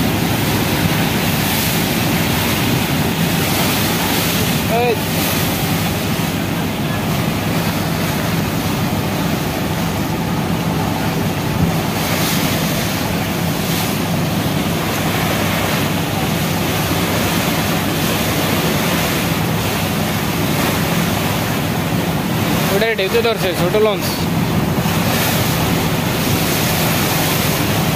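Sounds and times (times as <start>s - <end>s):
boat engine droning: 0.0s - 27.9s
churning river water rushing: 0.0s - 27.9s.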